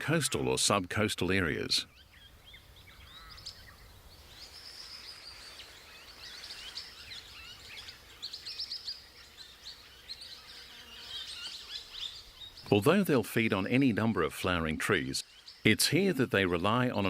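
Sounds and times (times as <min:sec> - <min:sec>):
faint steady hiss: 0:00.0 - 0:17.0
small birds chirping: 0:00.0 - 0:17.0.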